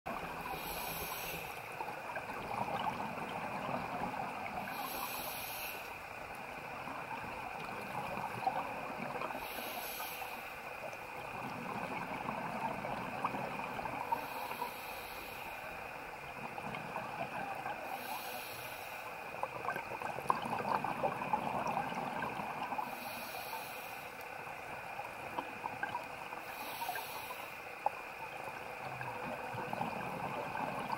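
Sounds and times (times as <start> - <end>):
exhaled bubbles hissing underwater: 0.1 - 30.9
steady crackling background: 0.1 - 30.9.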